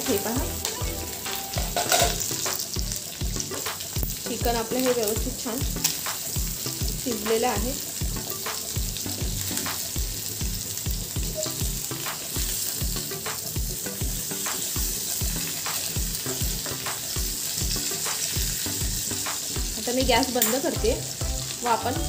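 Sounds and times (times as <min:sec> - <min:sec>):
chicken sizzling in butter: 0:00.0 - 0:22.0.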